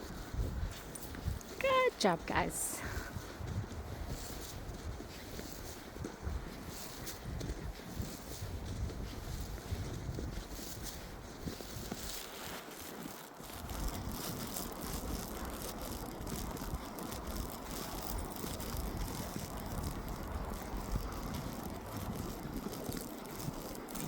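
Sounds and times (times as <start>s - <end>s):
footsteps crunching through snow: 0.0s - 24.0s
wind rumbling on microphone: 0.0s - 24.0s.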